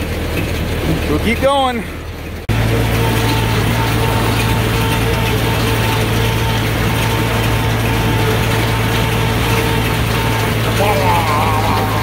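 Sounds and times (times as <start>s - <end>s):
mower cutter running: 0.0s - 12.0s
tractor engine running: 0.0s - 12.0s.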